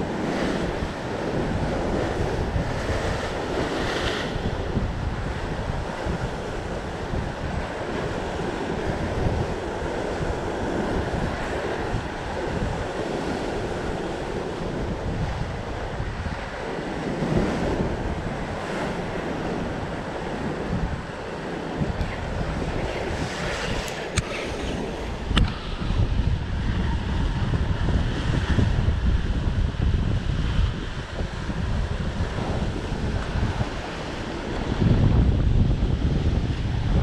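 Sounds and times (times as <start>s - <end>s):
waves breaking against rocks: 0.0s - 37.0s
wind buffeting microphone: 0.0s - 37.0s.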